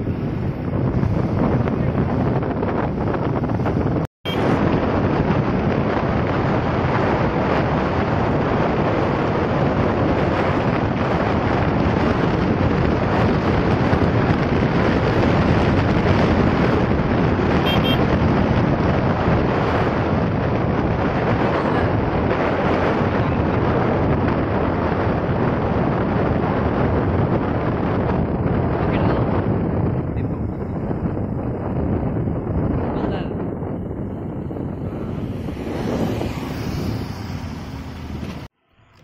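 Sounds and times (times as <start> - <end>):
road noise: 0.0 - 39.0
wind roaring over microphone: 0.0 - 39.0.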